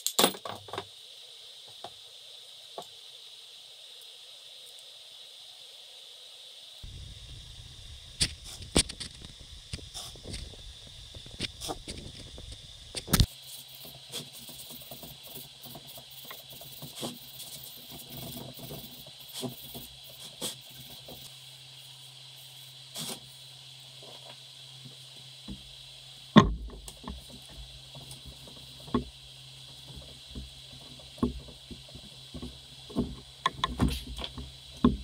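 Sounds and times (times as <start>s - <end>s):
faint high whine: 0.2s - 35.0s
steady low hum: 6.8s - 35.0s.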